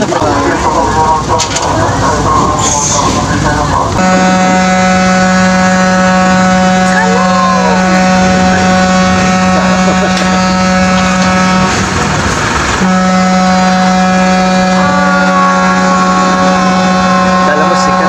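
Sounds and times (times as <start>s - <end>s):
ferry engines droning: 0.0s - 18.0s.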